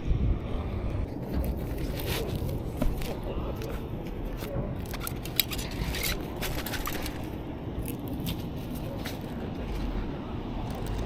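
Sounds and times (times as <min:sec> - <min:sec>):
steady low rumble: 0:00.0 - 0:11.0
light clicks and scrapes: 0:01.1 - 0:10.0.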